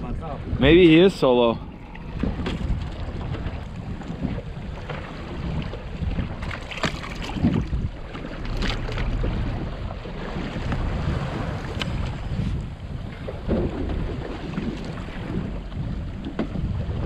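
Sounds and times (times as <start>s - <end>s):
outboard motor rumbling: 0.0s - 17.0s
wind buffeting microphone: 0.0s - 17.0s.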